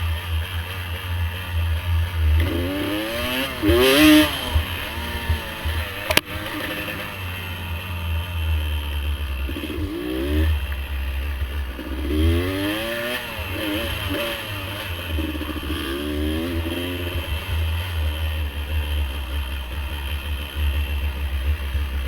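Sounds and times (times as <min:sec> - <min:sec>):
dirt bike engine revving: 0:00.0 - 0:22.0
engine clatter: 0:00.0 - 0:22.0.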